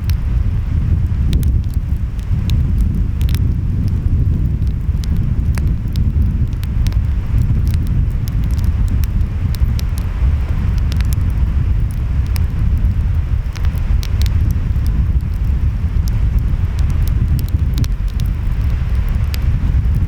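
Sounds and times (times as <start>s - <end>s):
wind: 0.0s - 20.0s
wood fire crackling: 0.0s - 20.0s.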